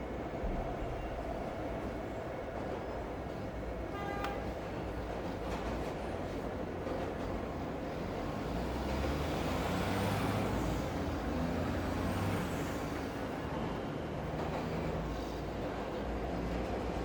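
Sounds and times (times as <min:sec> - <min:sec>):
city ambience: 0:00.0 - 0:17.0.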